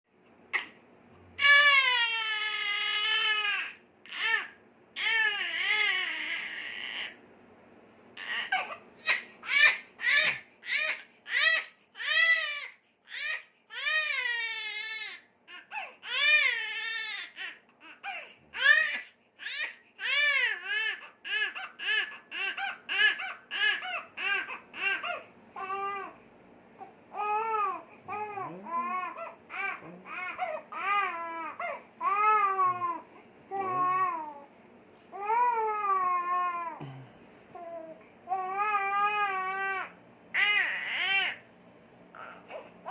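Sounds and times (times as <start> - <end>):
infant crying: 1.4 - 7.2, 8.2 - 26.2, 26.8 - 34.4, 35.1 - 36.9, 37.6 - 41.4, 42.2 - 42.9.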